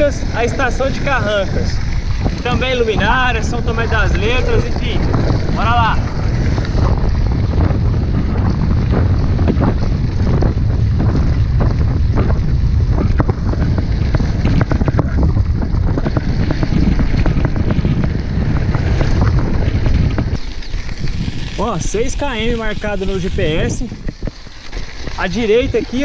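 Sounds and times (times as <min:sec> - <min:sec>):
bike rattling and knocking: 0:00.0 - 0:26.0
wind buffeting microphone: 0:00.0 - 0:26.0.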